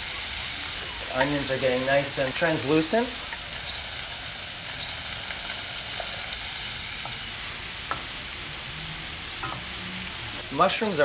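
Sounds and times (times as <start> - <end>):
mushrooms and onion sizzling in pan: 0.0 - 11.0.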